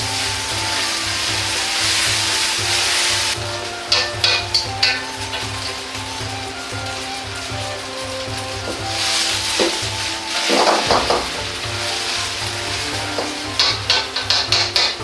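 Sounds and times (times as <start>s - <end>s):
chopsticks tapping a wok: 0.0s - 15.0s
noodles sizzling in oil: 0.0s - 15.0s.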